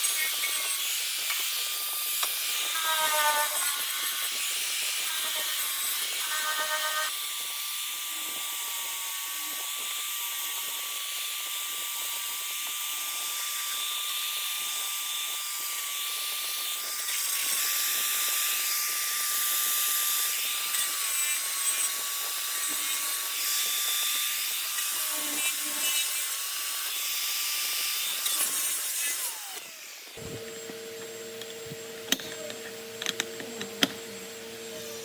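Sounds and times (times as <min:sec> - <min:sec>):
power tool whining: 0:00.0 - 0:35.0.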